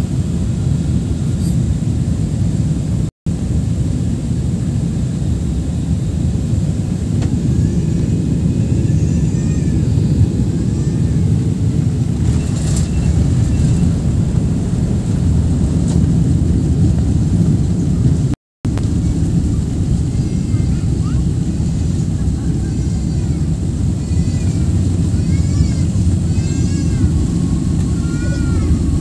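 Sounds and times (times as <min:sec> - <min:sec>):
jet engines rumbling in cabin: 0:00.0 - 0:29.0
rushing air: 0:00.0 - 0:29.0.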